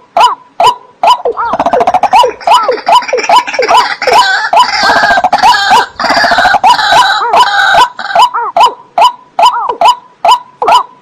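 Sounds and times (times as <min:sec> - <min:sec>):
wetland birds calling: 0:00.2 - 0:11.0.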